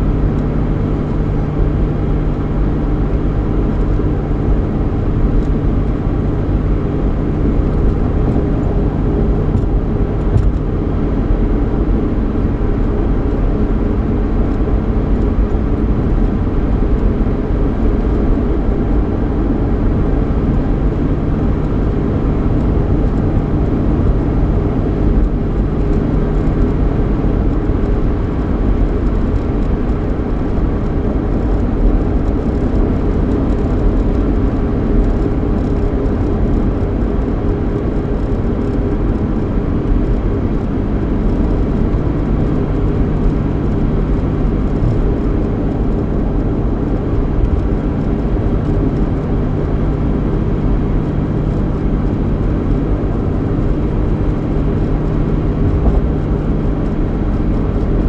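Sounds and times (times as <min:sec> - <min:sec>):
car engine hum: 0:00.0 - 0:58.0
road noise inside car cabin: 0:00.0 - 0:58.0.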